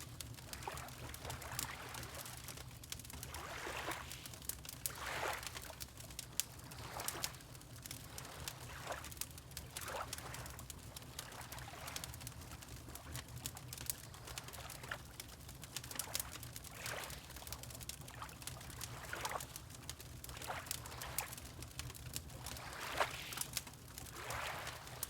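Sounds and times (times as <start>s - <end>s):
wood fire crackling: 0.0s - 16.7s, 17.3s - 25.0s
water lapping: 0.4s - 13.2s, 14.1s - 17.5s, 18.1s - 25.0s.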